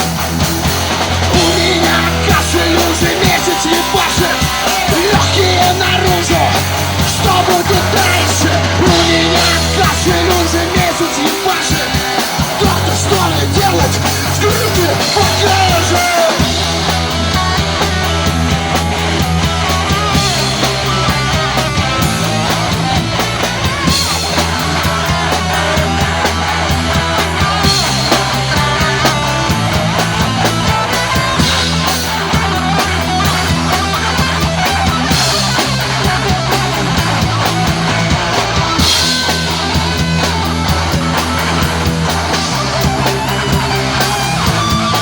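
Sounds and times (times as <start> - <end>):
bass and drums: 0.0 - 45.0
electric guitar: 0.0 - 45.0.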